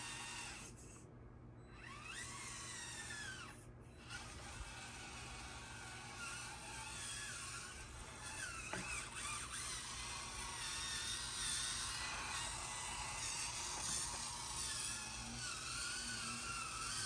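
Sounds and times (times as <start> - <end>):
toy truck motor whining: 0.0 - 1.0, 1.6 - 17.0.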